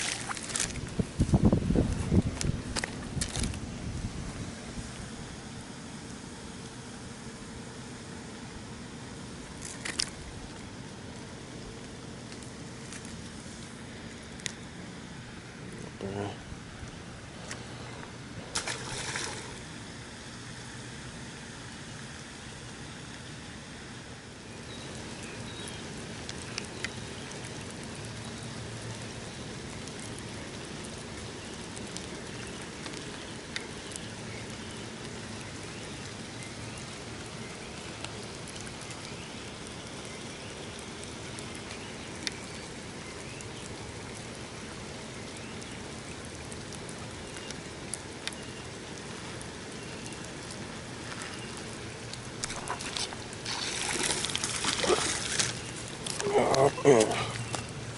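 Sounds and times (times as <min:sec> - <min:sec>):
rain falling on pond and grass: 0:00.0 - 0:57.9.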